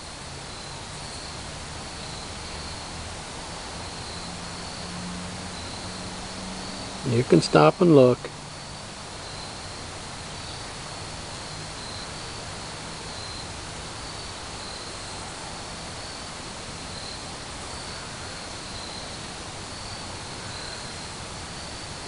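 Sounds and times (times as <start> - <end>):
insects chirping: 0.0 - 22.0
outdoor background hiss: 0.0 - 22.0.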